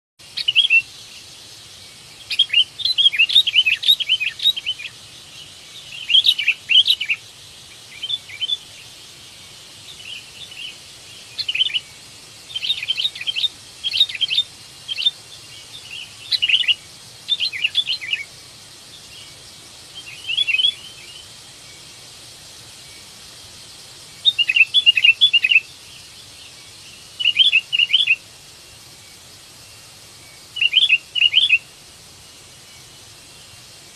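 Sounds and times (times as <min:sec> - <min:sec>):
bird chirping: 0:00.2 - 0:33.6.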